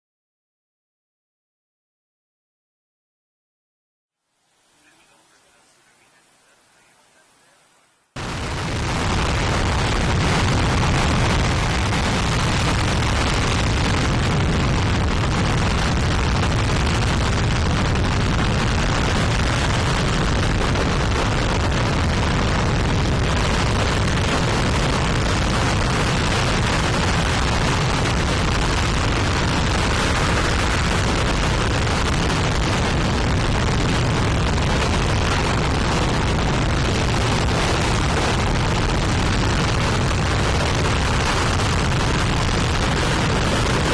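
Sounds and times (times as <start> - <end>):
rocket engine roaring: 8.2 - 43.9.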